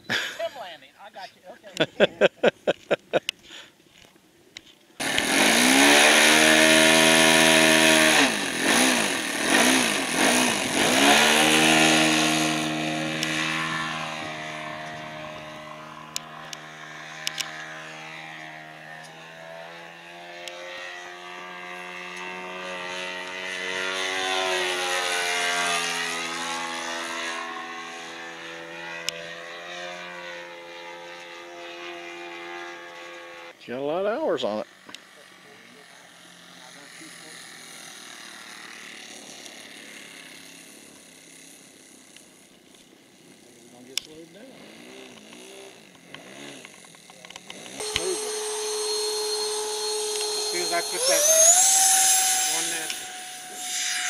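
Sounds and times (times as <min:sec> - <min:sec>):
model motor and propeller: 0:04.0 - 0:54.0.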